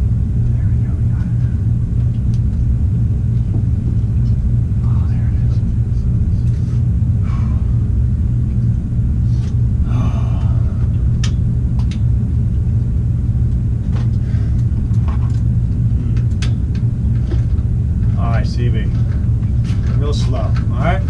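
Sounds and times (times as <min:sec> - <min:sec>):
loud low hum: 0:00.0 - 0:21.0.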